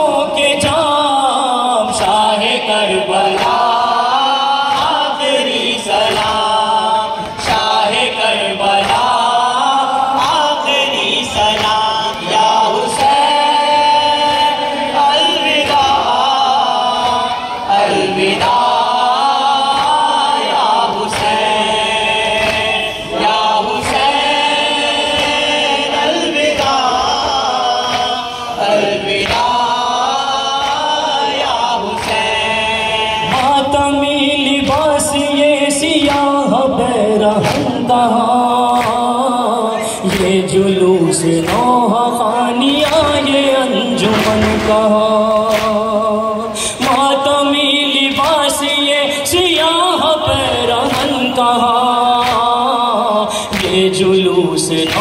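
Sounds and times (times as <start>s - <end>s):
men singing a lament: 0.0s - 55.0s.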